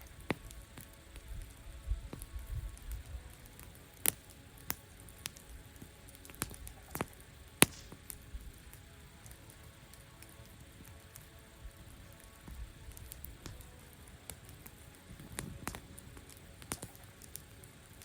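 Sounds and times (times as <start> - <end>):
campfire crackling: 0.0 - 18.0
fire popping: 0.0 - 18.0.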